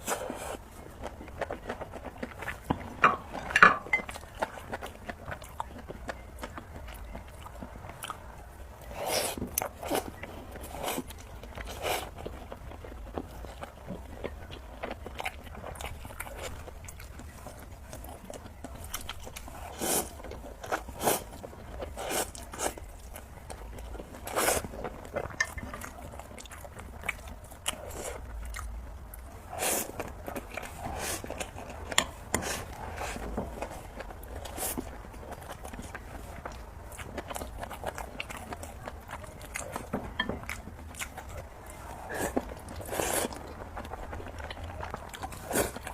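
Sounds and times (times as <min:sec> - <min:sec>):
person chewing noodles: 0:00.0 - 0:45.9.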